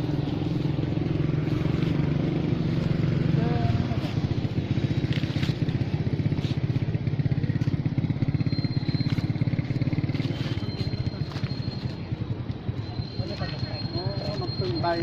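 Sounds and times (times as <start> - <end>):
small engine puttering: 0.8 - 15.0.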